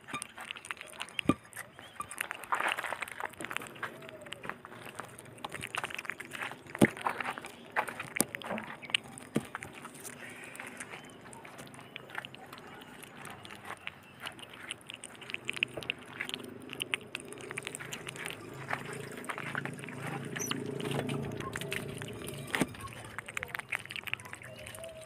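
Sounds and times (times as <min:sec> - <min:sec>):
otter chewing and smacking: 0:00.0 - 0:25.0.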